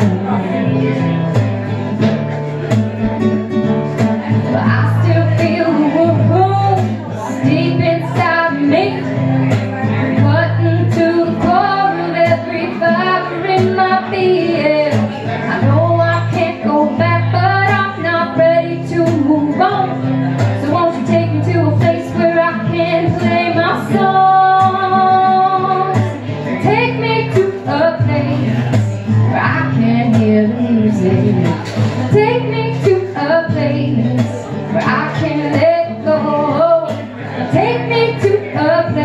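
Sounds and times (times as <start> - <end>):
guitar: 0.0 - 39.0
woman singing: 4.4 - 39.0.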